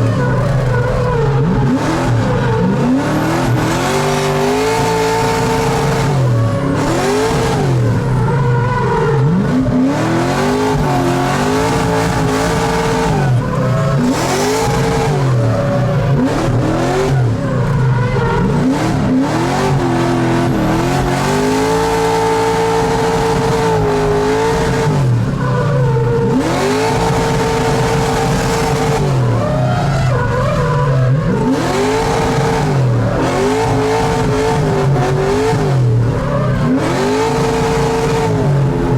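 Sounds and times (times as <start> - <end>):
car engine revving hard: 0.0 - 38.9
tyres squealing and skidding: 0.0 - 38.9.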